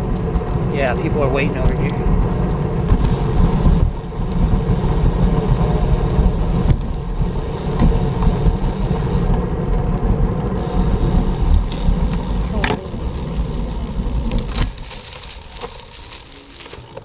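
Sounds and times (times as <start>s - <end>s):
wind and road noise while cycling: 0.0s - 17.0s.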